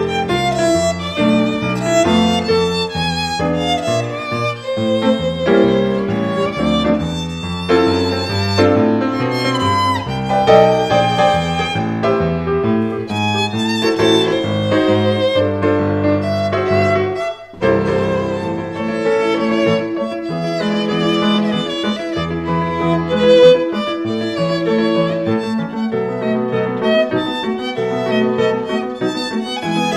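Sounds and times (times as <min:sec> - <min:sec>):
violin melody: 0:00.0 - 0:29.9.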